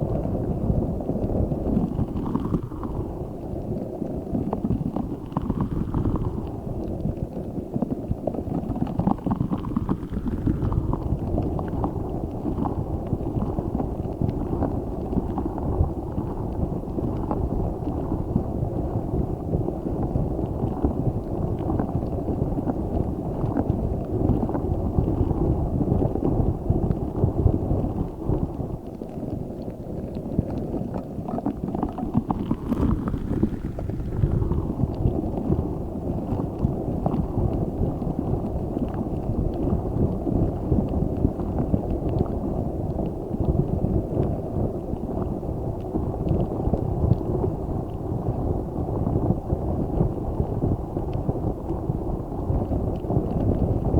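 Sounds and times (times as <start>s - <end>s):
small clicks and crackles: 0.0s - 53.9s.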